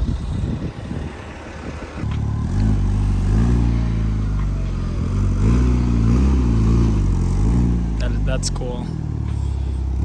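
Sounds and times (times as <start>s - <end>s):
car engine revving: 0.1s - 10.0s.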